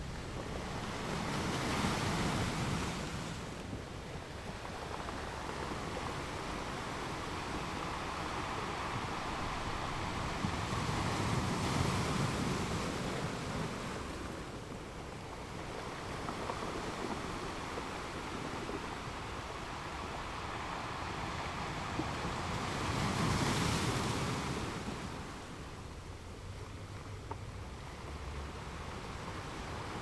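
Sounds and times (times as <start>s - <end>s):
sea waves breaking on beach: 0.0s - 26.1s, 28.2s - 30.0s.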